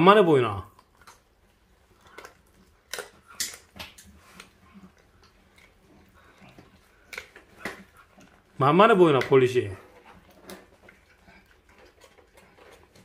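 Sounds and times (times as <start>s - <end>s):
dog chewing and crunching bones: 0.6s - 13.0s.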